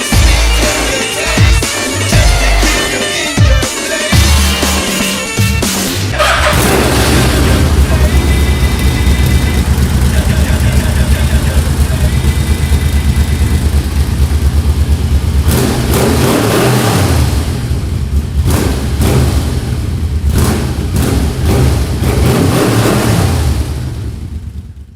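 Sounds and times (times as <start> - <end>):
motorcycle engine revving: 4.1 - 24.9.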